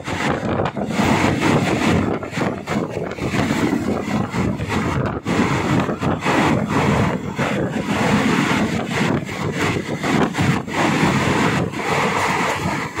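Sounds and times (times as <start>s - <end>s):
moving train rumble: 0.0s - 13.0s
wind buffeting microphone: 0.0s - 13.0s.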